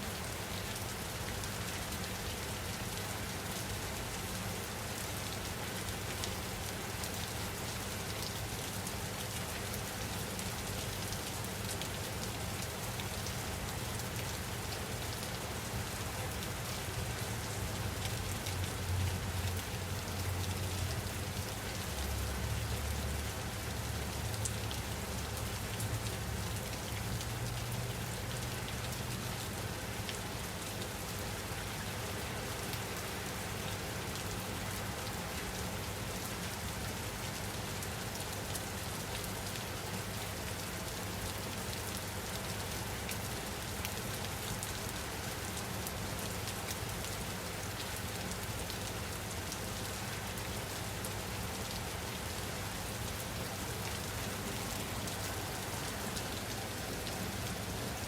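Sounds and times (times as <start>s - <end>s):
raindrops ticking on a surface: 0.0s - 58.0s
steady rain hiss: 0.0s - 58.0s.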